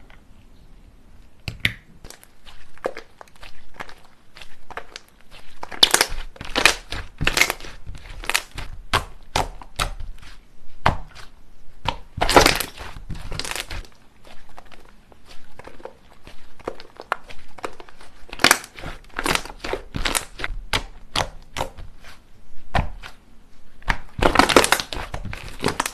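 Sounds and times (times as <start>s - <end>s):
slime crackling and popping: 1.6s - 22.1s, 22.7s - 25.9s.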